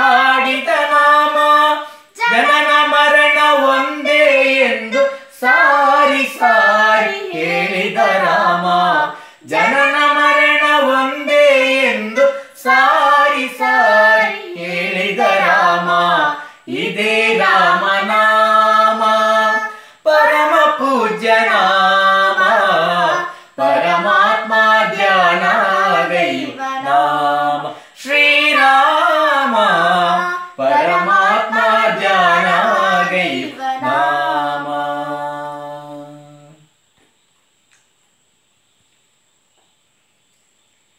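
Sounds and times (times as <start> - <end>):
girl and man singing: 0.0 - 36.9.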